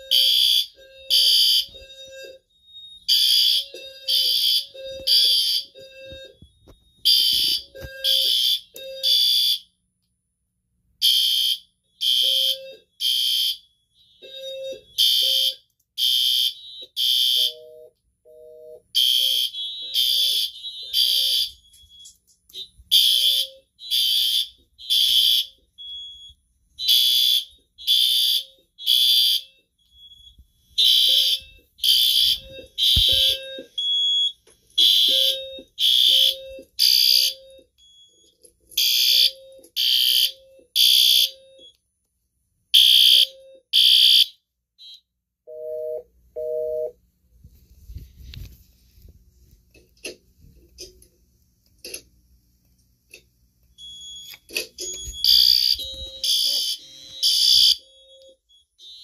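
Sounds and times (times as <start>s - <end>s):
fire alarm horns blasting: 0.0s - 9.7s, 11.0s - 41.8s, 42.7s - 47.0s, 53.8s - 59.0s.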